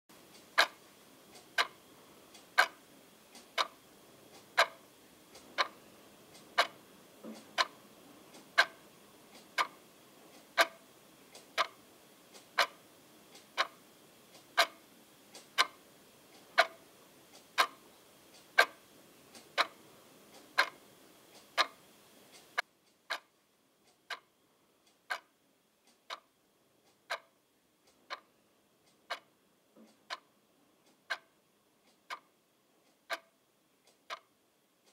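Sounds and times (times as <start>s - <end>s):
clock ticking: 0.1s - 34.9s
faint hiss: 0.1s - 34.9s.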